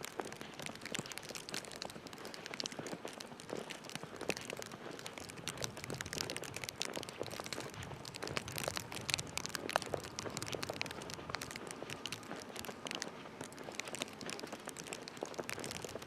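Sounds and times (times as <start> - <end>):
dense irregular crackling: 0.0 - 16.0.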